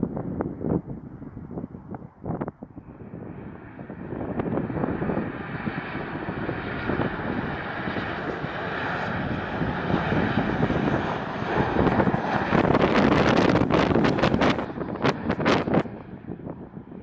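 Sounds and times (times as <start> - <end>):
jet engines rumbling overhead: 0.0 - 17.0.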